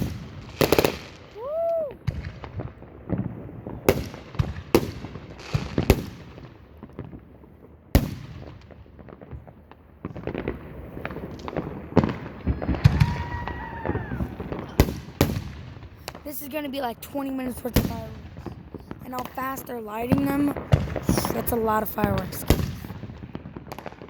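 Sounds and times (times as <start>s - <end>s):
fireworks exploding: 0.0s - 24.0s
rapid fireworks crackling: 0.0s - 24.0s.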